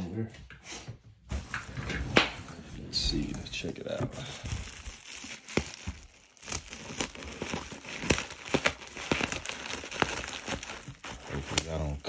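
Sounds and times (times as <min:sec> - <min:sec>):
bubble wrap crackling: 0:01.4 - 0:12.0.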